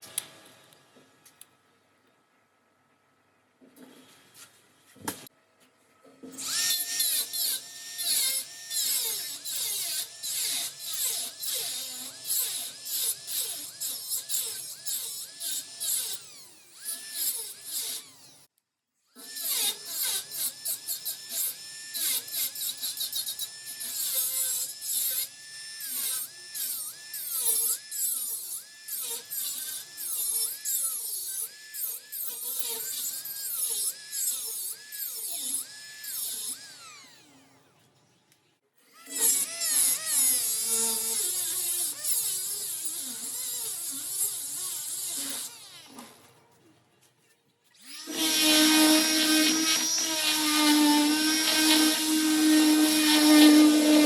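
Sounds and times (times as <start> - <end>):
angle grinder grinding steel: 6.4 - 18.4, 19.2 - 37.4, 39.0 - 46.0, 47.8 - 54.0.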